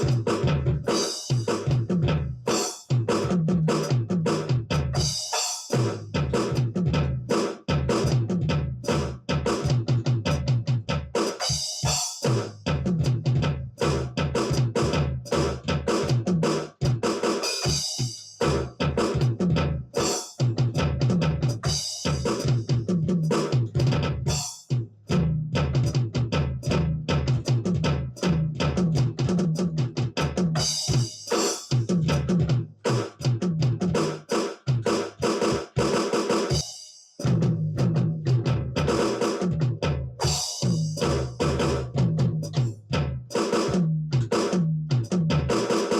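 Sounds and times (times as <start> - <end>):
electronic drum kit groove: 0.0 - 45.9.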